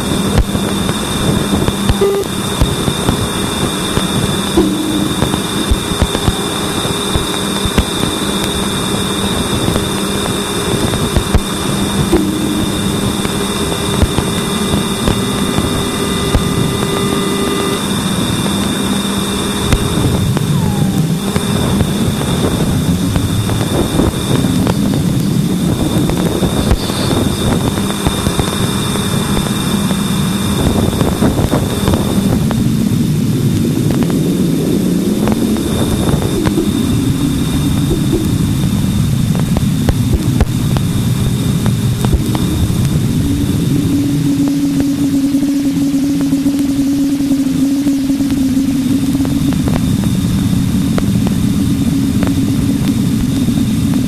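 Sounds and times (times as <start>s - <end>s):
steady high tones: 0.0s - 30.5s, 32.6s - 53.9s
dense crackling hiss: 0.0s - 54.0s
low wavering sliding tones: 0.0s - 54.0s.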